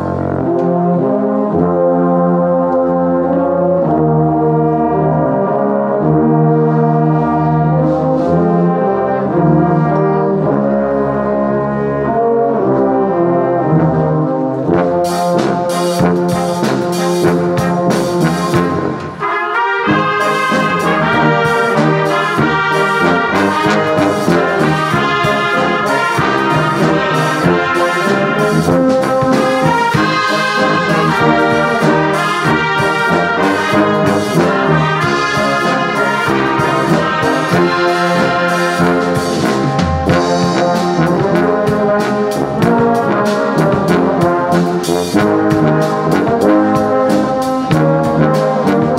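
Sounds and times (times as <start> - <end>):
brass band playing a hymn: 0.0 - 48.9.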